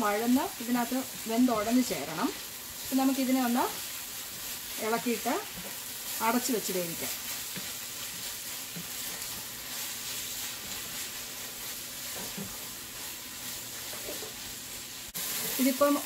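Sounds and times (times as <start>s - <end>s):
onions sizzling in oil: 0.0s - 16.0s
wooden spatula scraping: 0.9s - 16.0s.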